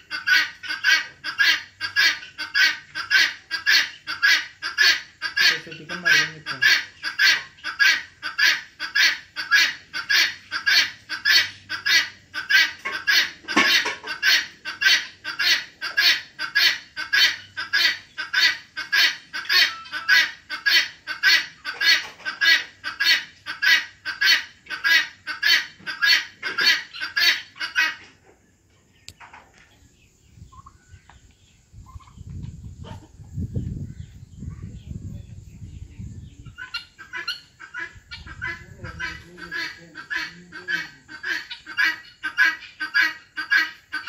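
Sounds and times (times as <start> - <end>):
guineafowl cackling call: 0.0 - 28.4, 36.4 - 44.0.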